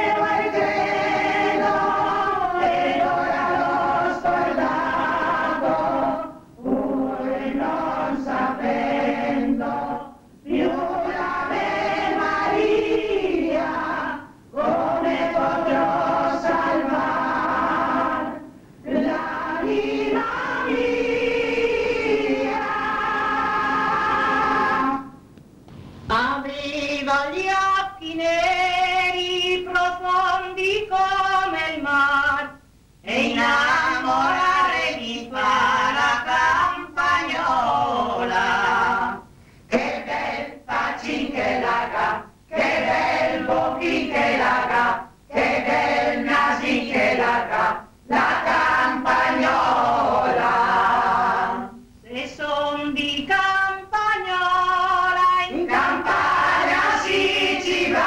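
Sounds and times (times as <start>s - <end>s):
group singing a folk song: 0.0s - 25.2s, 26.8s - 58.0s.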